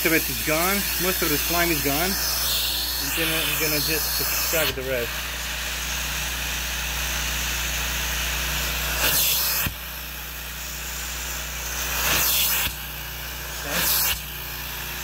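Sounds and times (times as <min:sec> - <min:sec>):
carpet extractor suction hiss: 0:00.0 - 0:15.0.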